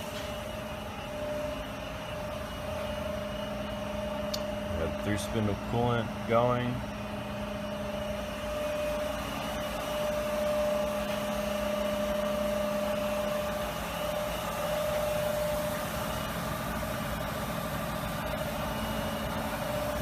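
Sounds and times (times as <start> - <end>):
constant machine whine: 0.0 - 20.0
machine mechanical hum: 0.0 - 20.0.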